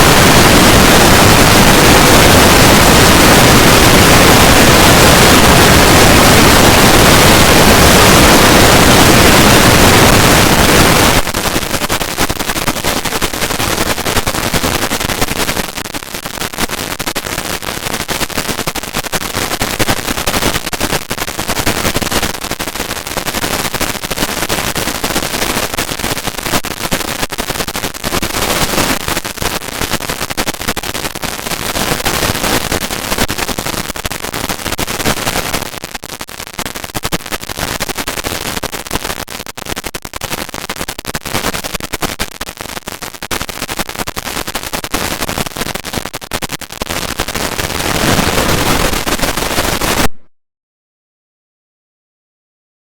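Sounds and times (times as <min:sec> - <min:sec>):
dense rapid crackle: 0:00.0 - 0:50.2
harsh distorted noise: 0:00.0 - 0:50.3.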